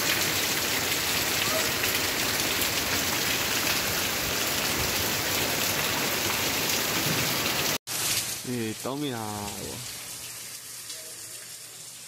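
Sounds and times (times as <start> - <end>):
heavy rain on cobblestones: 0.0 - 12.0.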